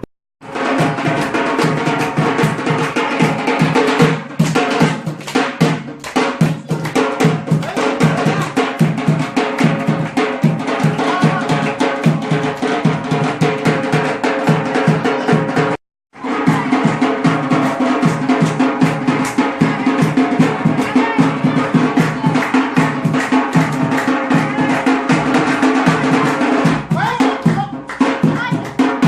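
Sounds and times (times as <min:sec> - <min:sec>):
drums in fast dance rhythm: 0:00.0 - 0:29.0.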